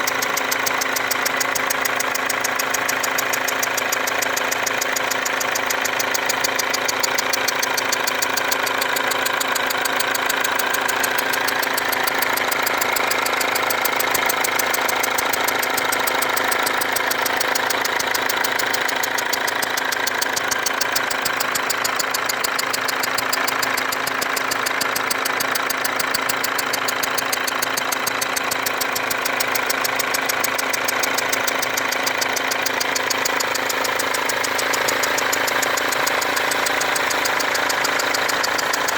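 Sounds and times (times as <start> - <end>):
diesel engine idling: 0.0 - 38.9
fast engine ticking: 0.0 - 38.9.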